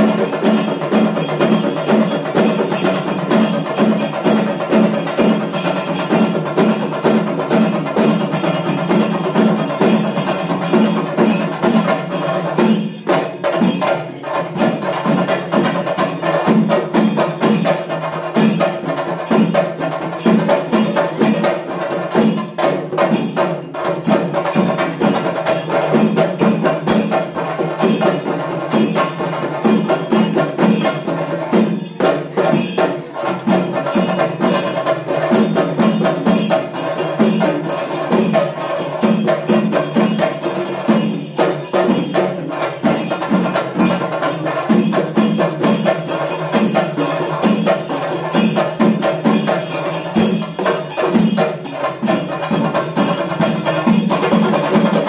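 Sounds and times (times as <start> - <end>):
rapid drumming with sticks: 0.0 - 55.0.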